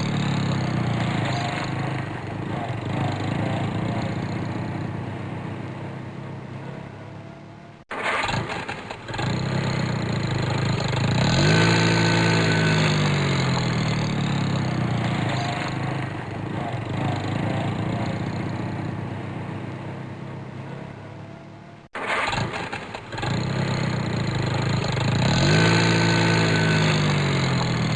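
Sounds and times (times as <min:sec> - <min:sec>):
car engine starting and revving: 0:00.0 - 0:27.9
different engine sound: 0:00.0 - 0:27.9
engine idling: 0:00.0 - 0:27.9.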